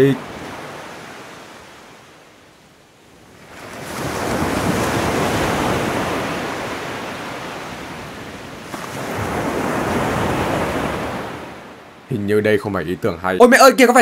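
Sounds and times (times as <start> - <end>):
waves washing: 0.0 - 14.0.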